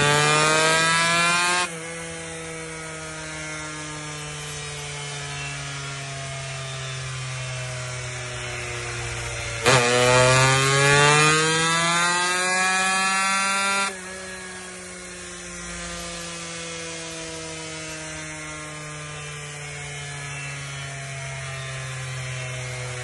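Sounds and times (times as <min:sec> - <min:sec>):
power tool motor whining: 0:00.0 - 0:23.0.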